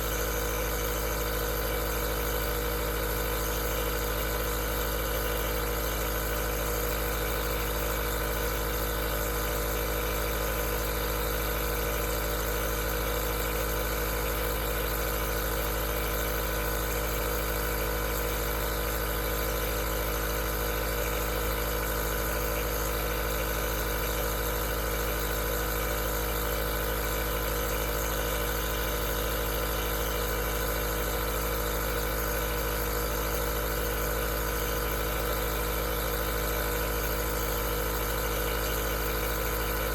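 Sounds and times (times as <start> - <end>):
compressor humming with hiss: 0.0 - 39.9.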